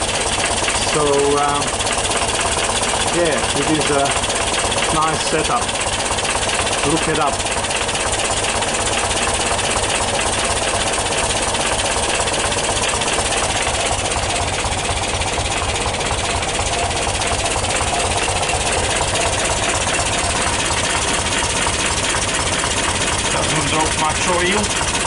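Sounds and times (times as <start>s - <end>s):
van engine idling: 0.0s - 25.0s.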